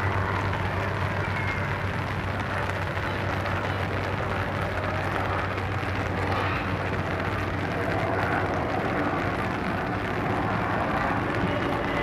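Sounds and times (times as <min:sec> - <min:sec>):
distant city traffic rumble: 0:00.0 - 0:12.0
light rain falling on a lake: 0:00.0 - 0:12.0.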